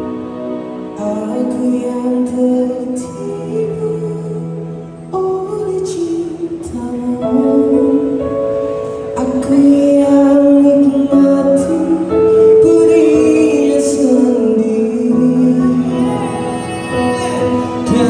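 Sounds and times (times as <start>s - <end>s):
electric keyboard: 0.0s - 18.0s
man singing a slow ballad: 0.9s - 18.0s.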